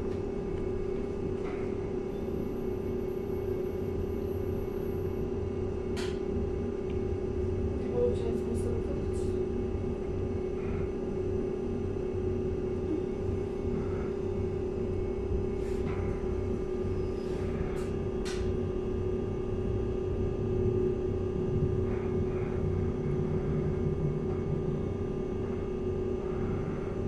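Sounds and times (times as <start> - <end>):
mid-pitched hum: 0.0 - 27.0.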